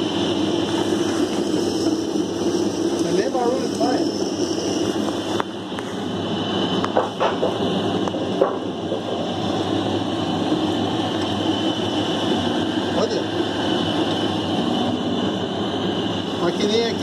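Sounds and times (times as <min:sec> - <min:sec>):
sawmill machine humming: 0:00.0 - 0:17.0.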